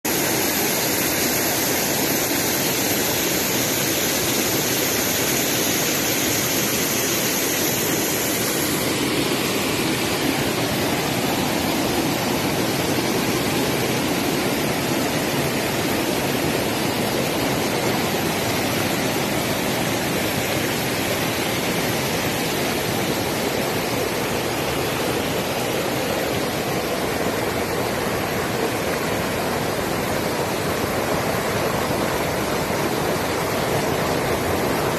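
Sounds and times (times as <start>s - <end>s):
creek water rushing over rocks: 0.0s - 34.9s
faint high hiss: 0.1s - 34.9s.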